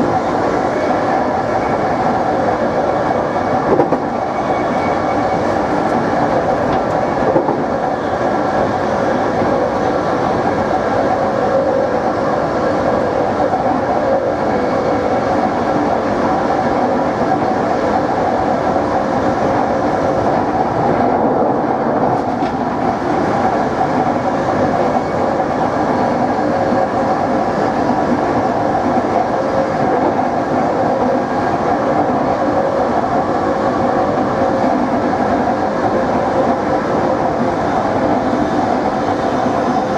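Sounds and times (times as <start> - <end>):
electric train motors humming: 0.0 - 39.9
wheels rumbling on rail: 0.0 - 39.9.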